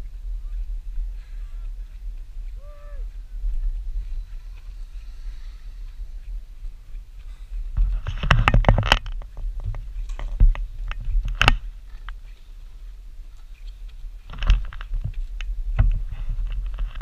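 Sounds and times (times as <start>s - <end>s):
low rumble: 0.0s - 17.0s
bike gear rattling: 3.2s - 17.0s.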